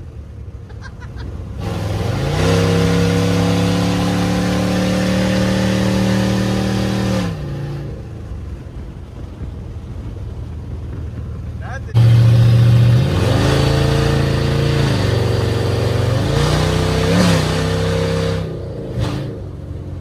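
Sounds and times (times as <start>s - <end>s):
truck engine idling and revving: 0.0s - 20.0s.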